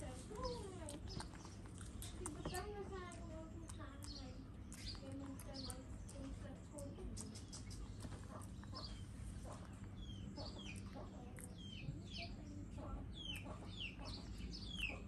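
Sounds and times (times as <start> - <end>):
birds chirping: 0.0 - 15.0
low steady hum: 0.0 - 15.0.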